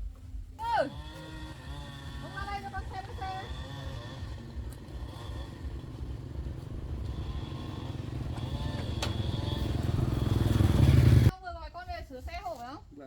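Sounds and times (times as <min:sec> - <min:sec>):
small engine pulsing: 0:00.6 - 0:11.3.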